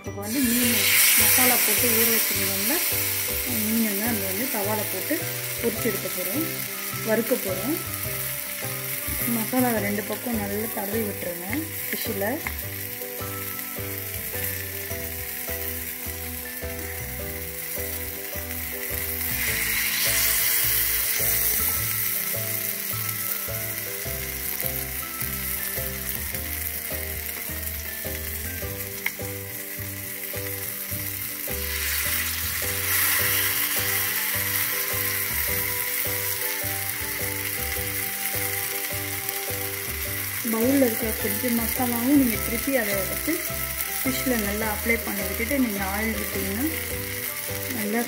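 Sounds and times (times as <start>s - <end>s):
fish sizzling in oil: 0.0s - 48.0s.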